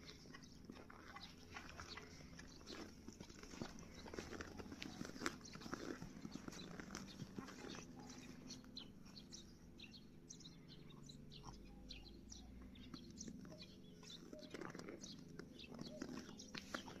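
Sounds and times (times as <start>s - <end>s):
low steady hum: 0.0s - 17.0s
small birds chirping: 0.0s - 17.0s.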